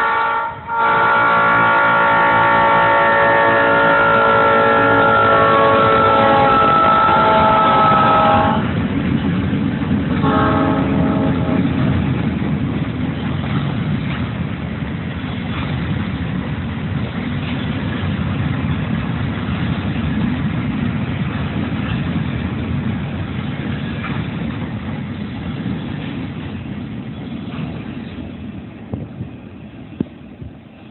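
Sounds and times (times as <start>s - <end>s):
train knocks: 0.0s - 30.9s
train wheels rumbling on rail: 0.0s - 30.9s.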